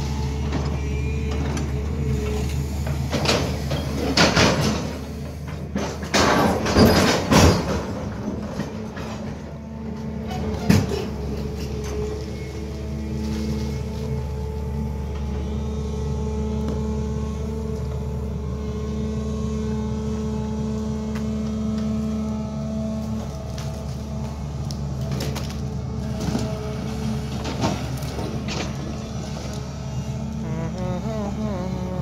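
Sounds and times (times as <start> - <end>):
excavator engine and hydraulics: 0.0 - 32.0.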